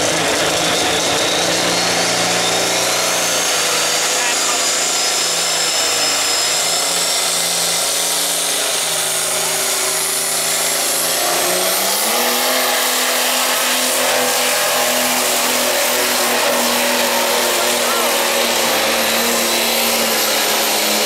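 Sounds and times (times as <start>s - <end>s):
diesel truck engine under load: 0.0s - 21.0s.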